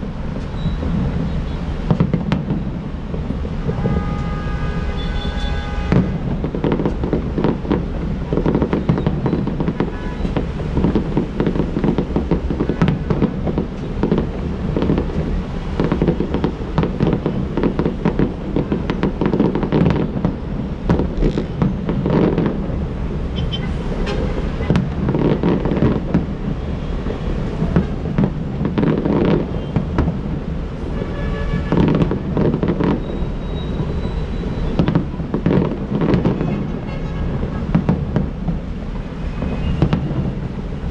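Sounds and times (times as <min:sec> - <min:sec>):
fireworks booming and crackling: 0:00.0 - 0:40.9.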